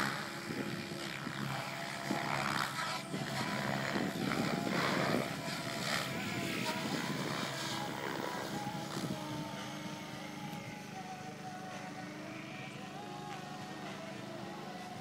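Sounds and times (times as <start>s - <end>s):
rc helicopter whine: 0.0s - 15.0s.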